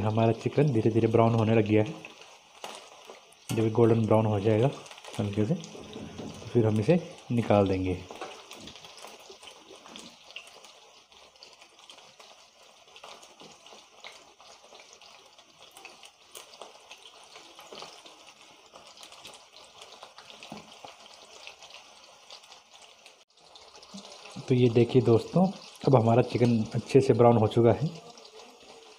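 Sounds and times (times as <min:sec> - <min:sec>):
chicken deep-frying in oil: 0:00.0 - 0:28.9.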